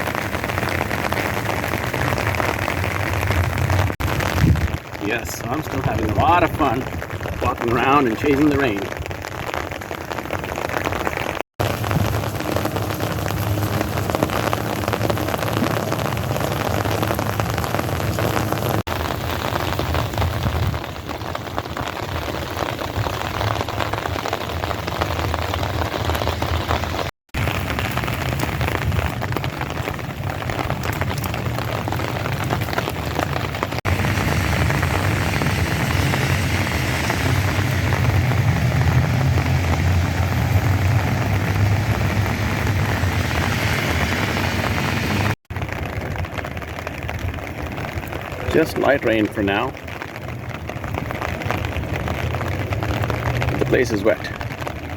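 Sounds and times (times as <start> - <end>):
light rain falling: 0.0 - 54.9.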